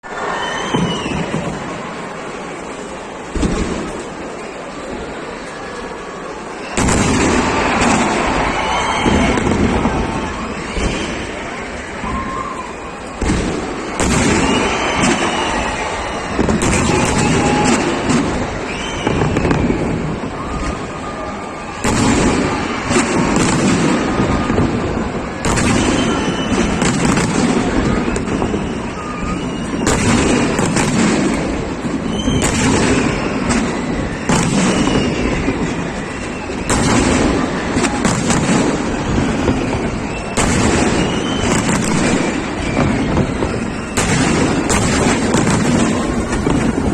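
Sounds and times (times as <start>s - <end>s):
fireworks bangs and crackles: 0.0s - 46.9s
fireworks whistles: 0.1s - 4.4s, 6.2s - 46.9s.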